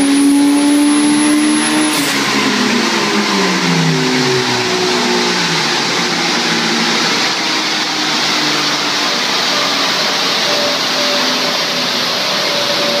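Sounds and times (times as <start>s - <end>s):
car engine at low revs: 0.0s - 13.0s
cooling fan rushing: 0.0s - 13.0s.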